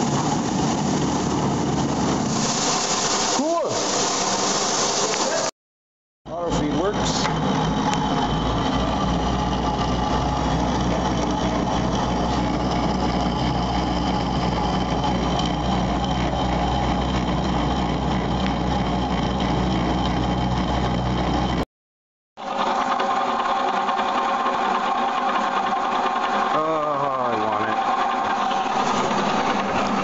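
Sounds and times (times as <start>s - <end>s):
metal lathe running: 0.0s - 5.5s, 6.3s - 21.6s, 22.4s - 30.0s.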